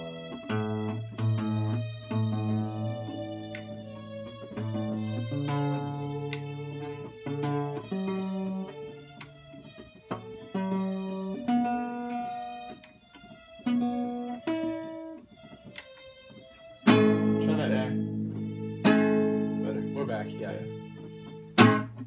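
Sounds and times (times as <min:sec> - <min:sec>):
classical guitar notes: 0:00.0 - 0:22.0
keyboard single notes: 0:00.0 - 0:22.0.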